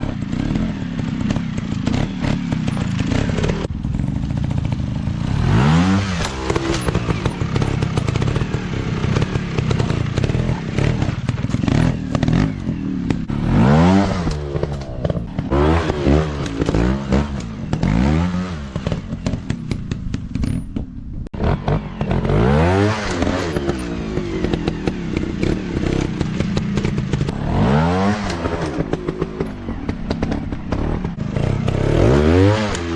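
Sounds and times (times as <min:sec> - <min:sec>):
motorbike engines revving: 0:00.0 - 0:32.9.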